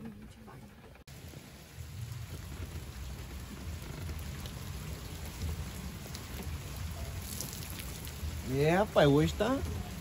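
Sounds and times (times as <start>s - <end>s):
heavy rain falling: 1.0s - 10.0s.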